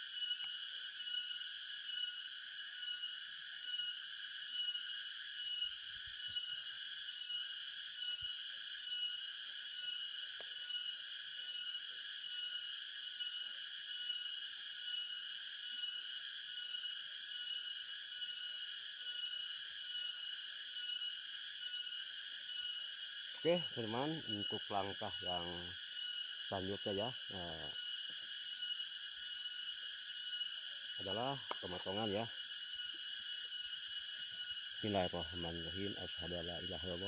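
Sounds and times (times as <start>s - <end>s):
insects buzzing shrilly: 0.0s - 37.0s.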